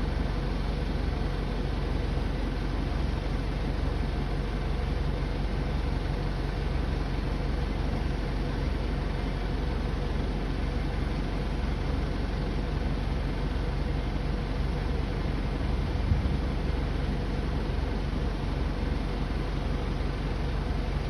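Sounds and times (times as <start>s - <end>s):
low aircraft engine rumble: 0.0s - 21.0s.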